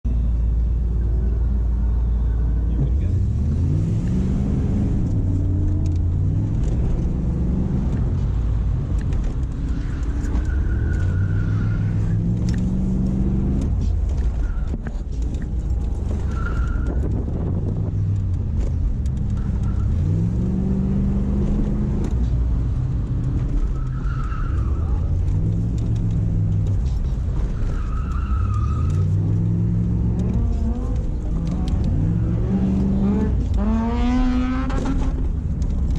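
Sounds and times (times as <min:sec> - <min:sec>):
car engine revving: 0:02.7 - 0:14.2, 0:15.2 - 0:35.9.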